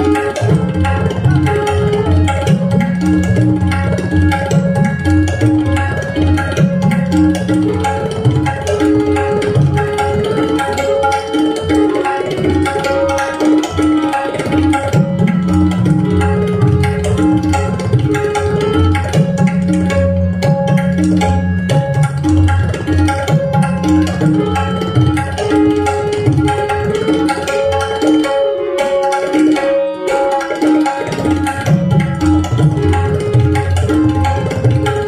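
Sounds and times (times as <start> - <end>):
harmonium melody: 0.0 - 35.0
tabla drum strokes: 0.0 - 35.0.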